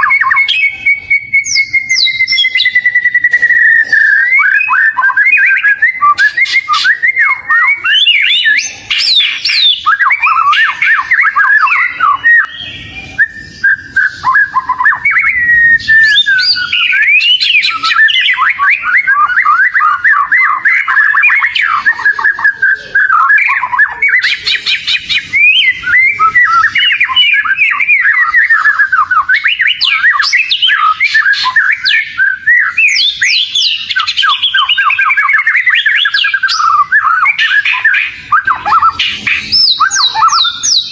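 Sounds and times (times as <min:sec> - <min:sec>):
songbird singing whistled notes: 0:00.0 - 0:40.9.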